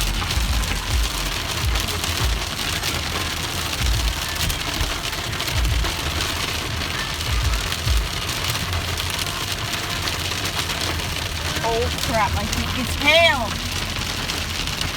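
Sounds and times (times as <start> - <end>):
hail ticking: 0.0 - 14.9
heavy rain: 0.0 - 14.9.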